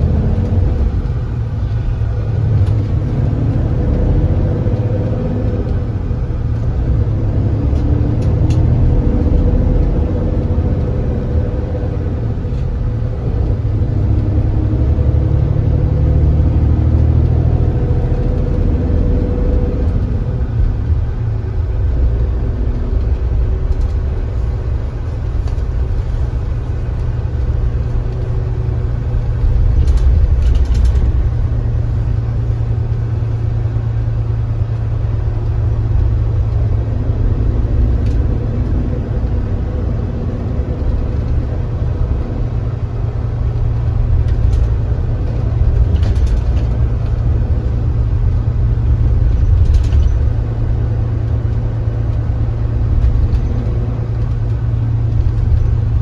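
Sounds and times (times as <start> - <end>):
bus engine running: 0.0 - 56.0
road rumble: 0.0 - 56.0.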